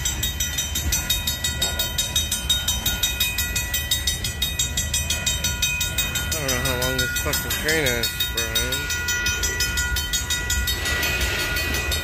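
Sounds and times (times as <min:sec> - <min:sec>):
crossing warning bell ringing: 0:00.0 - 0:12.0
train wheels rumbling on rails: 0:00.0 - 0:12.0.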